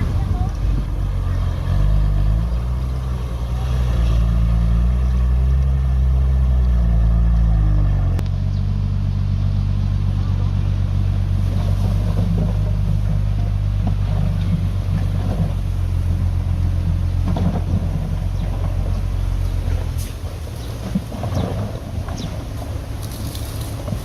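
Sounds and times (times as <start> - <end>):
heavy diesel engine revving: 0.0 - 24.0.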